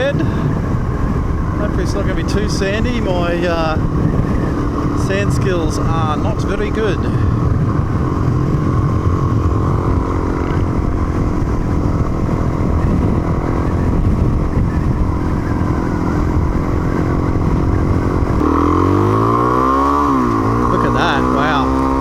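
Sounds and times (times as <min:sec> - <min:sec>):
motorcycle engine running: 0:00.0 - 0:22.0
wind rumble on microphone: 0:00.0 - 0:22.0.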